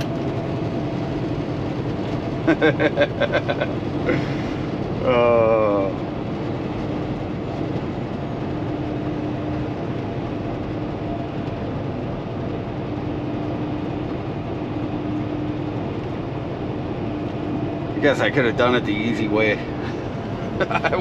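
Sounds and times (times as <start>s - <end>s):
road and wind noise: 0.0s - 21.0s
truck diesel engine drone: 0.0s - 21.0s.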